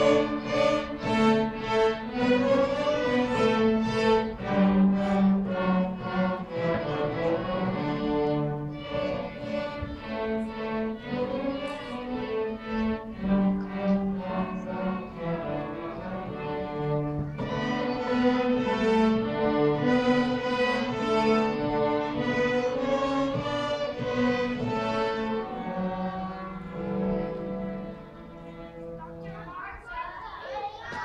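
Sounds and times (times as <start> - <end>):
string ensemble playing: 0.0 - 30.1.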